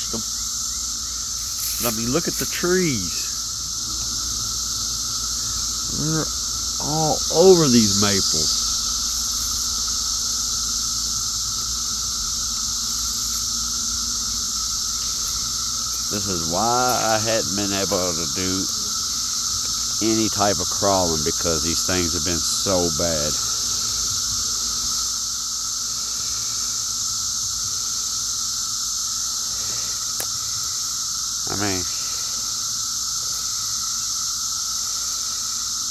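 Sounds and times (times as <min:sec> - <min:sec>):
cicadas droning: 0:00.0 - 0:35.9.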